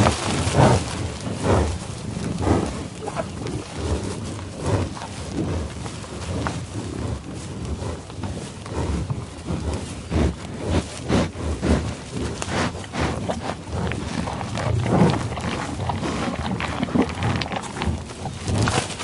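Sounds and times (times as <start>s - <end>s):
bison sniffing and puffing: 0.0s - 19.0s
rustling in tall grass: 0.0s - 19.0s.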